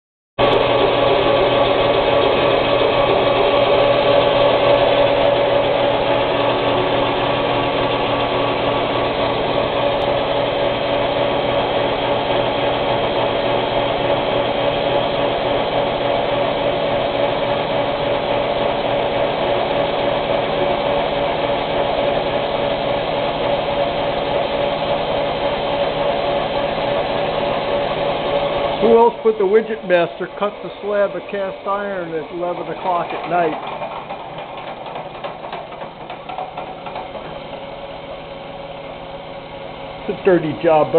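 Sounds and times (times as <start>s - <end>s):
milling cutter grinding metal: 0.4s - 40.9s
spindle running tone: 0.4s - 40.9s.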